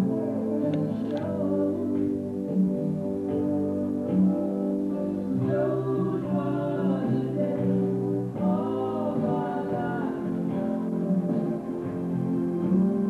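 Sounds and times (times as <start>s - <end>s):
person singing a melody: 0.0s - 13.0s.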